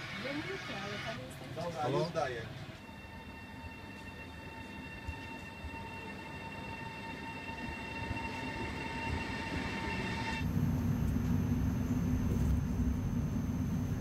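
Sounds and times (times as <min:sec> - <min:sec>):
high train whine: 0:00.0 - 0:14.0
train pulling in: 0:00.0 - 0:14.0
low rumble inside train: 0:02.6 - 0:14.0.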